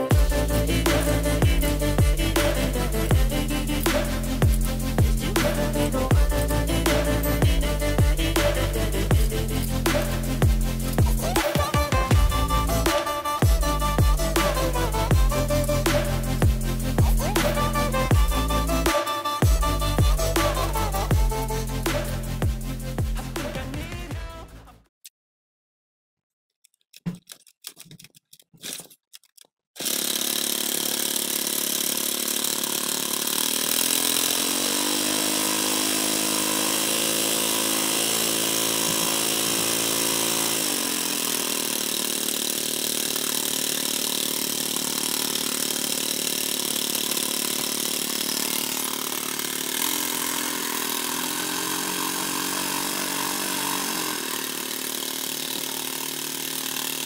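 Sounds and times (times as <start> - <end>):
small power tool motor running: 0.0 - 23.5, 29.8 - 57.0.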